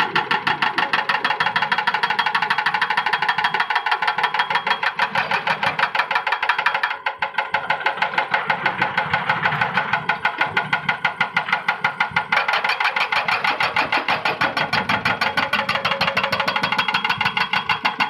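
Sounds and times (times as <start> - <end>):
excavator diesel engine clattering: 0.0 - 18.0.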